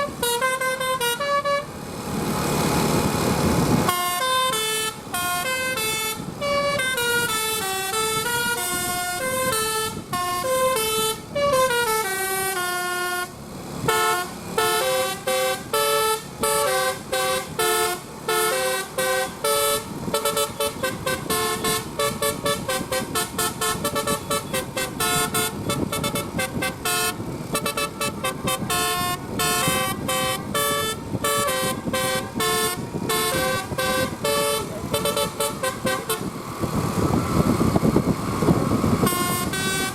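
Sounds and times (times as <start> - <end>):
bus musical horn playing a tune: 0.0 - 1.8, 3.8 - 37.6, 38.4 - 39.9.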